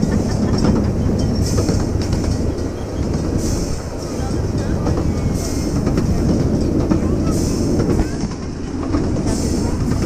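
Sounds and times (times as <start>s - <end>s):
miniature train wheels on rail: 0.0s - 10.0s.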